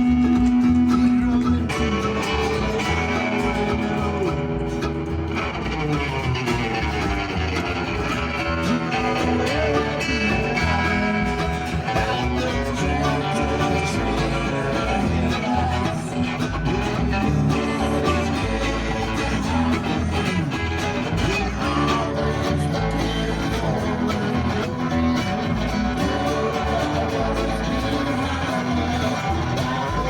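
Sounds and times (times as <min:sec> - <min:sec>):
mandolin: 0:00.0 - 0:30.0
strummed acoustic guitar: 0:00.0 - 0:30.0
upright bass: 0:00.0 - 0:30.0.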